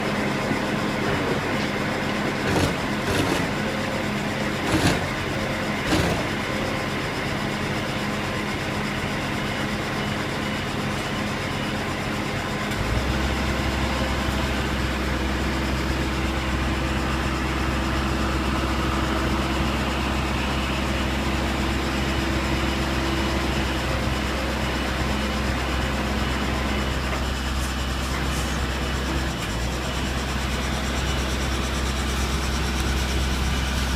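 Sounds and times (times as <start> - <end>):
deep steady drone: 0.0 - 33.9
truck engine running: 0.0 - 33.9.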